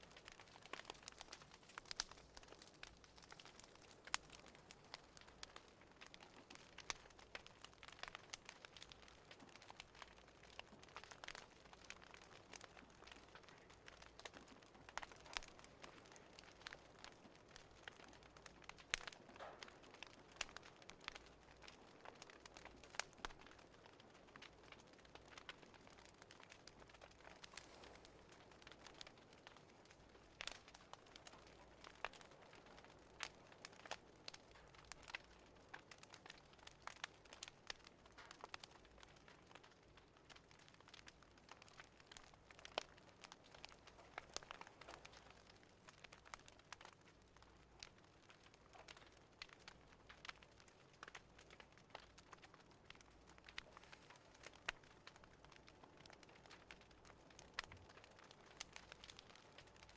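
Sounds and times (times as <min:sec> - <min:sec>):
soft fire hiss: 0:00.0 - 0:40.5, 0:41.1 - 0:59.9
faint wood fire crackling: 0:00.0 - 0:59.9.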